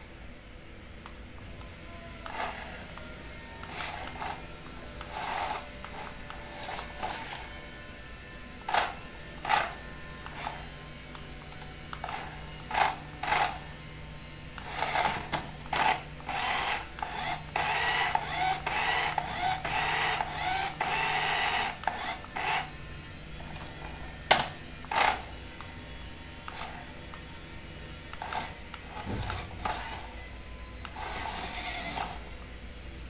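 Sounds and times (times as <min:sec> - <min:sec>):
toy car motor whirring: 0:01.4 - 0:08.0, 0:08.6 - 0:13.8, 0:14.4 - 0:32.6.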